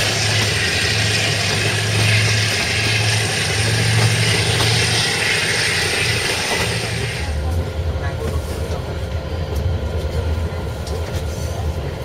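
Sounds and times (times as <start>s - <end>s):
passenger train running: 0.0s - 12.0s.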